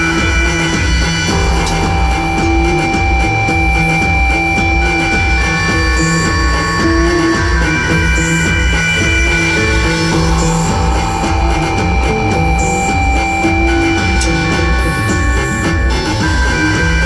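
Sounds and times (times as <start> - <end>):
long held high notes: 0.0 - 17.0
pulsing low beat: 0.0 - 17.0.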